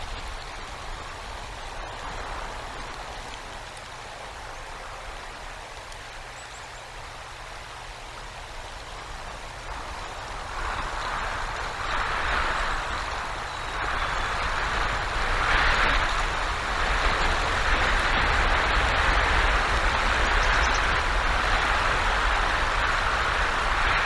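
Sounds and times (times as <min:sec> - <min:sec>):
storm wind on microphone: 0:00.0 - 0:24.0.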